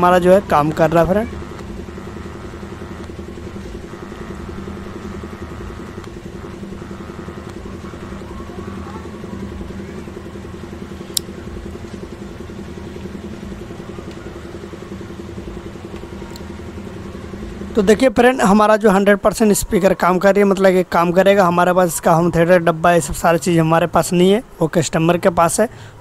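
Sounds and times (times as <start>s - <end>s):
low droning hum: 0.0s - 22.8s.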